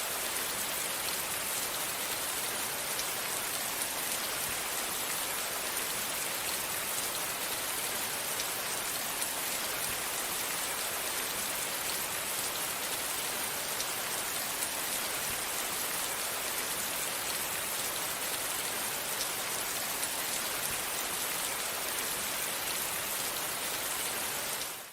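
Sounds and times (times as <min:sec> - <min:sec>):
rain falling on foliage: 0:00.0 - 0:24.9.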